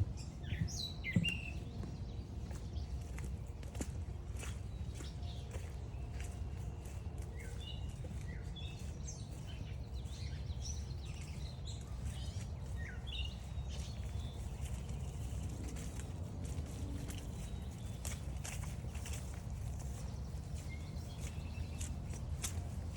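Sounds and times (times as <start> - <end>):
songbirds chirping: 0.0 - 22.9
steady low rumble: 1.6 - 22.9.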